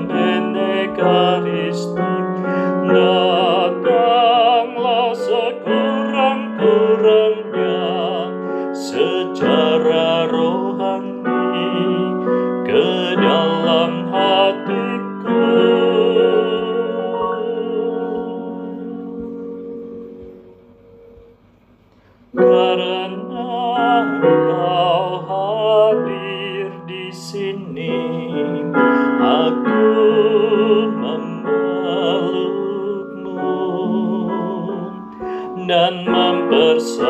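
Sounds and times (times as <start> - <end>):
person singing with piano: 0.0 - 21.4, 22.3 - 37.0.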